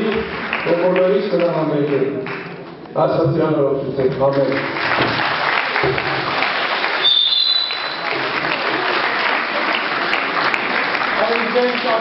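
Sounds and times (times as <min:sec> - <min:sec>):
audience applauding: 0:00.0 - 0:02.6, 0:04.2 - 0:12.0.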